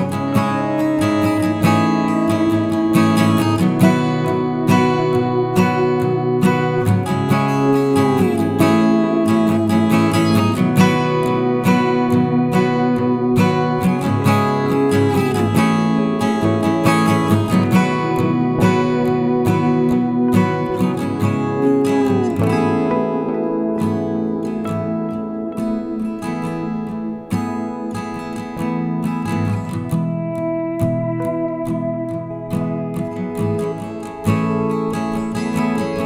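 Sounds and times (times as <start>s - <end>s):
acoustic guitar strummed and picked: 0.0s - 36.0s.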